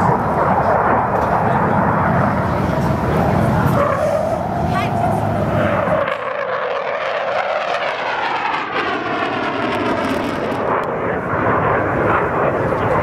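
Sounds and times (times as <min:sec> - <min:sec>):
jet fighter flying past: 0:00.0 - 0:13.0.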